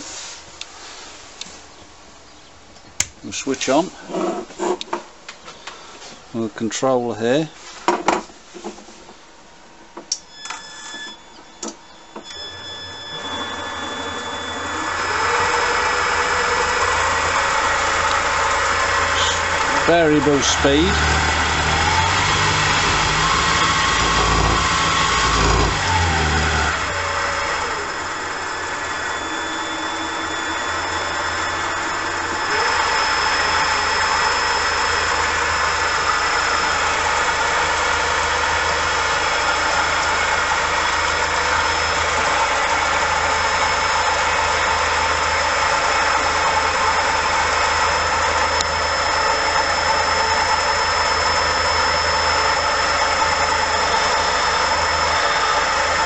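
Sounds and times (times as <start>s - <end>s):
lathe motor whining: 10.2s - 56.0s.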